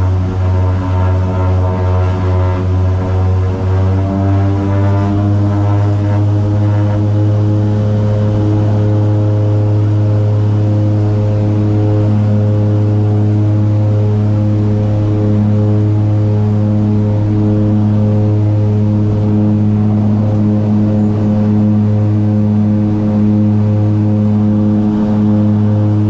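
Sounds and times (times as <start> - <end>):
propeller plane engines droning: 0.0 - 26.0.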